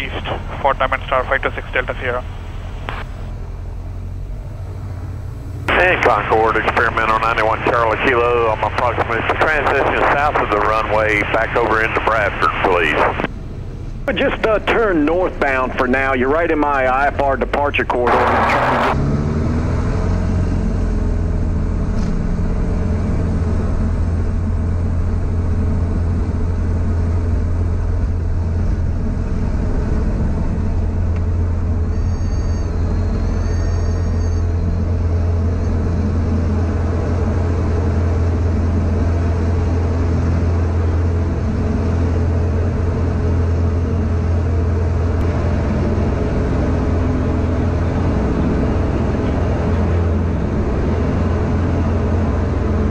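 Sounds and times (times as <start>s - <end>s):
aircraft engine and propeller drone: 0.0s - 52.9s.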